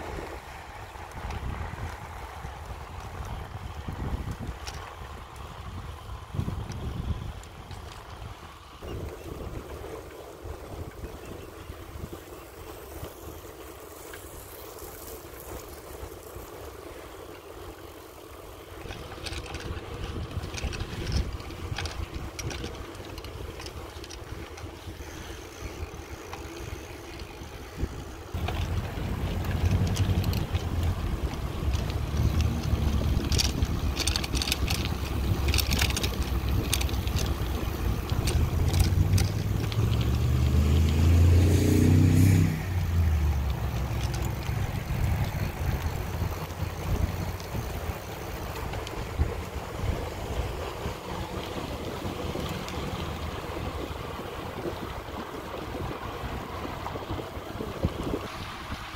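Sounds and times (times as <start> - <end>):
wind buffeting microphone: 0.0 - 18.0, 18.7 - 58.9
bicycle clicks and rattles: 0.0 - 58.9.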